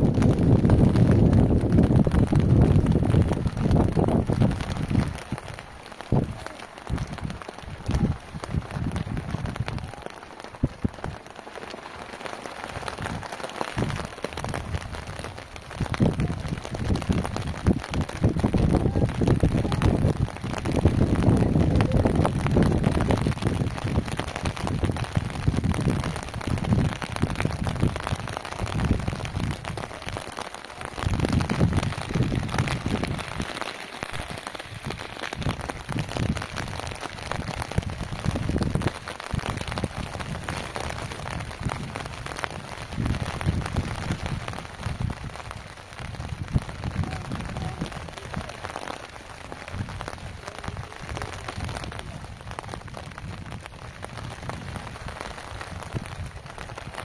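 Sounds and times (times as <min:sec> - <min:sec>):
rain falling: 0:00.0 - 0:57.0
wind rumbling on microphone: 0:00.0 - 0:57.0.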